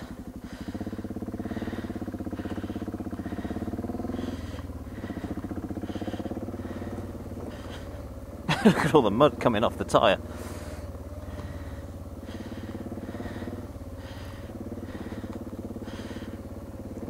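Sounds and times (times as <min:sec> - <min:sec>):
motorcycle engine throbbing: 0:00.0 - 0:17.0.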